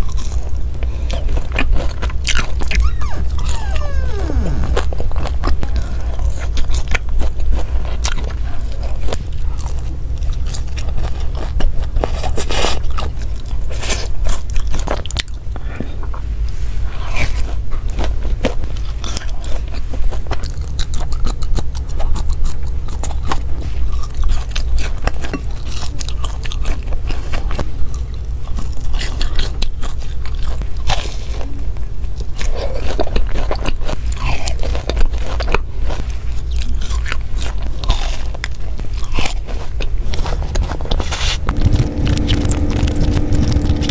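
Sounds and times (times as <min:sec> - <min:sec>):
crunchy bites and chewing: 0:00.0 - 0:43.9
steady low hum: 0:00.0 - 0:43.9.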